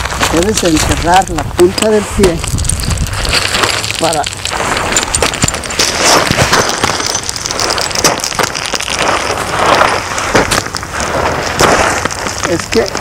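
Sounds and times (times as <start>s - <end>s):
boots crunching on loose gravel: 0.0s - 13.0s.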